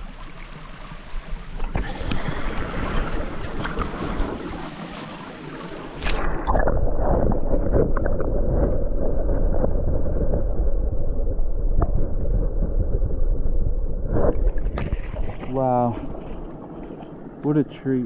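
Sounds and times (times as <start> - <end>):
muffled underwater stream rushing: 0.0 - 18.0.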